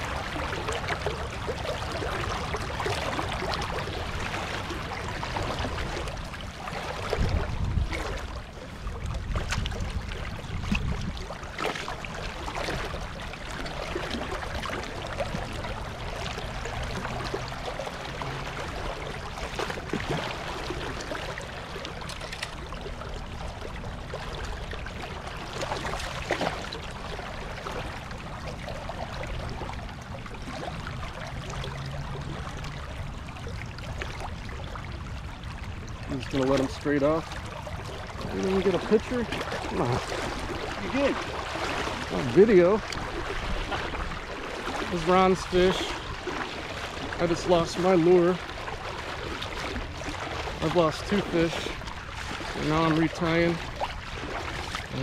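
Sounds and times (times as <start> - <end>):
river current running: 0.0 - 55.0.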